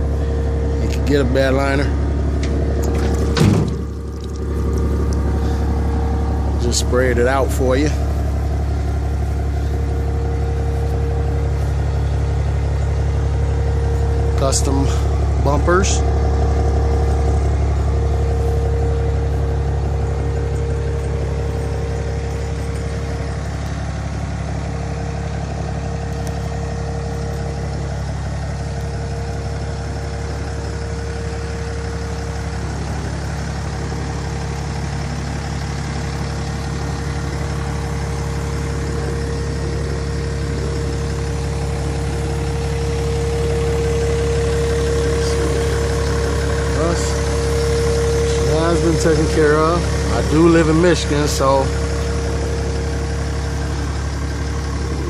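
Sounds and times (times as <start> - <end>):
steady whine: 0.0 - 27.9, 28.6 - 55.0
diesel engine idling: 0.0 - 55.0.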